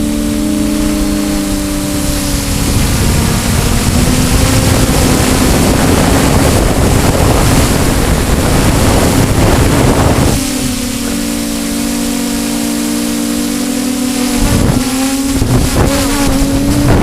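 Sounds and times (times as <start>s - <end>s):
steady motor hum: 0.0s - 17.0s
wind on microphone: 0.0s - 17.0s.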